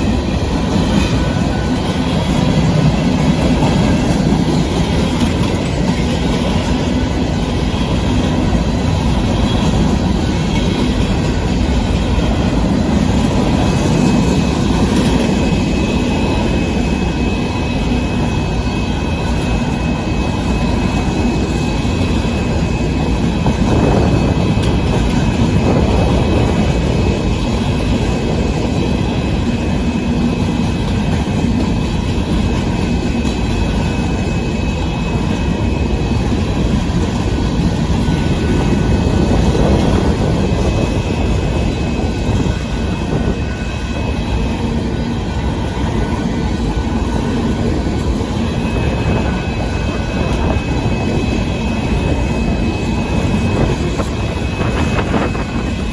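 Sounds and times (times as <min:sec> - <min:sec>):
freight train cars rumbling: 0:00.0 - 0:55.9.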